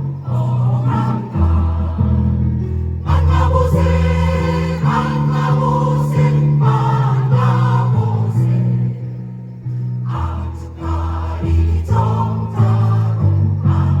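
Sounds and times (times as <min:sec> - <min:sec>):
choir singing with accompaniment: 0:00.0 - 0:14.0.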